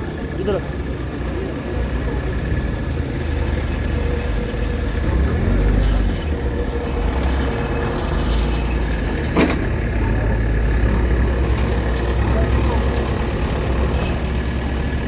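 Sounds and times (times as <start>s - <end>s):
bulldozer diesel engine: 0.0s - 15.0s.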